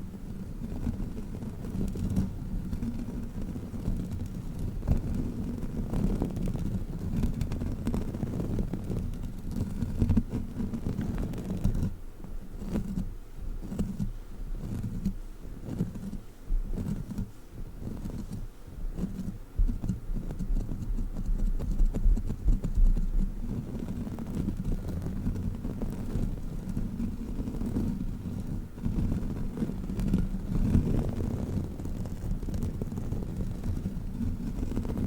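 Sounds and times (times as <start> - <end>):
rubber toy rubbing on microphone: 0.0 - 35.0.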